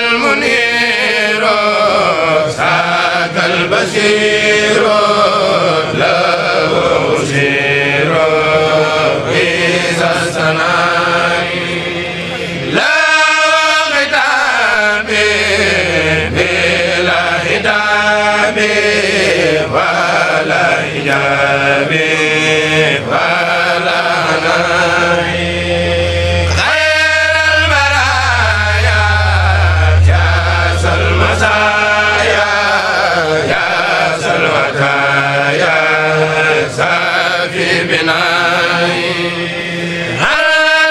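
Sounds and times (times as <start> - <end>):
group chanting: 0.0 - 40.9
steady low tone: 0.7 - 12.9, 13.5 - 40.3.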